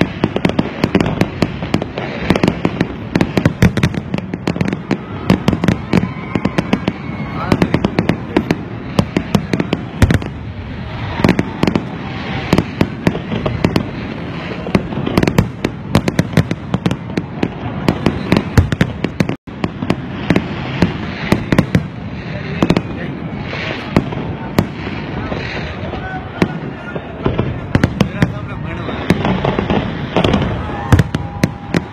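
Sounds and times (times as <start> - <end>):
fireworks cracks and bangs: 0.0 - 31.9
rumbling wash: 0.0 - 31.9.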